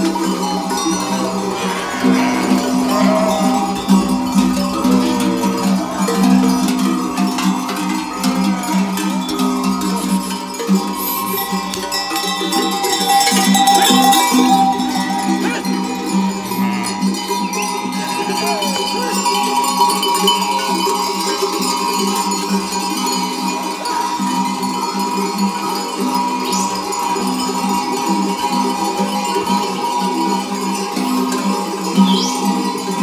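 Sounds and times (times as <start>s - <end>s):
livestock bells clanking: 0.0s - 33.0s.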